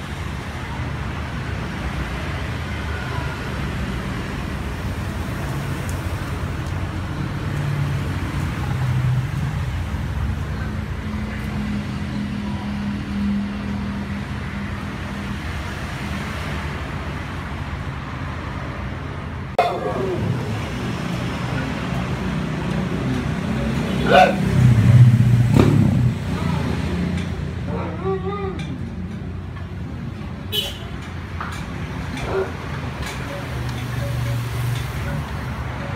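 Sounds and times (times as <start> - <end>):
road traffic rumble: 0.0 - 35.9
engine hum: 4.0 - 35.9.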